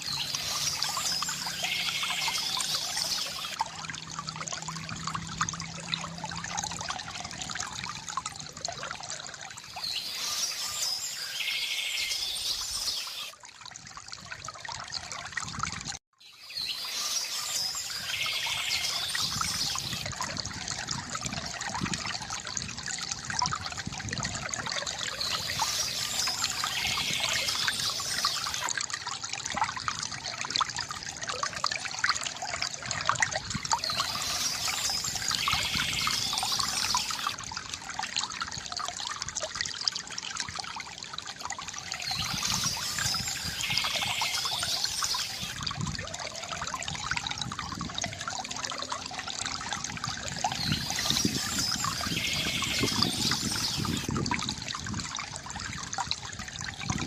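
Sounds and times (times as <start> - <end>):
fountain water trickling into pool: 0.0 - 57.0.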